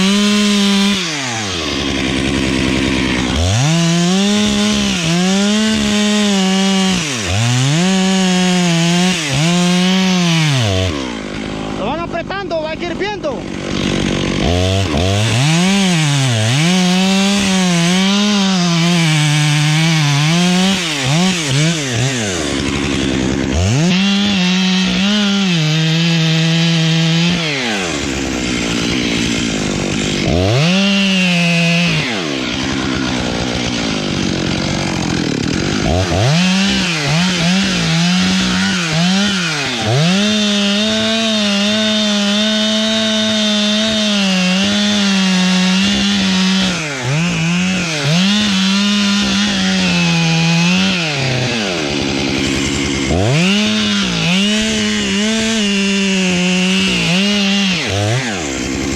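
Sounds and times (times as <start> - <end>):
chainsaw idling: 0.0 - 58.9
chainsaw revving and cutting wood: 0.0 - 58.9.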